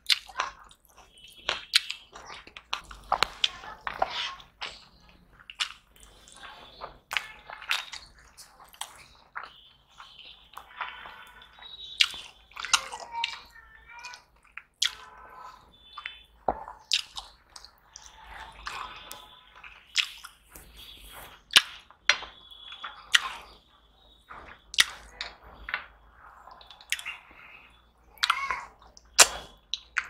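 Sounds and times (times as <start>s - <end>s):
wet squishy chewing: 0.0s - 30.0s.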